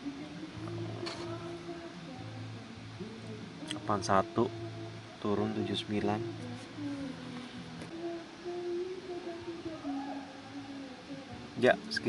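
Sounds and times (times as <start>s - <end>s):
person humming a slow tune: 0.0s - 12.0s.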